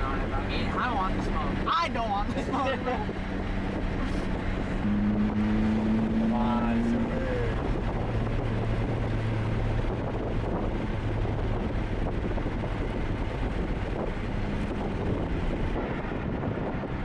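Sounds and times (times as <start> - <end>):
car engine hum: 0.0 - 17.0
road and wind noise: 0.0 - 17.0.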